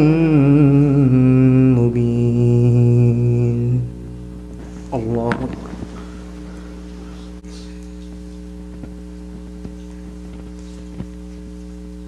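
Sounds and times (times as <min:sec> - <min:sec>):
electrical hum from sound system: 0:00.0 - 0:12.0.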